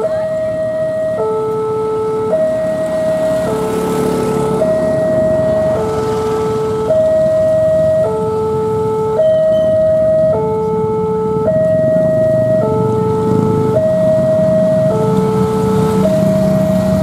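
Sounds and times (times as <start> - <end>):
two-tone level crossing alarm: 0.0 - 17.0.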